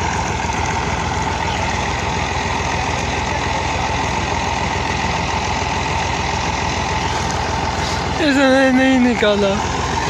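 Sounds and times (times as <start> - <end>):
tractor diesel engines running: 0.0 - 10.0.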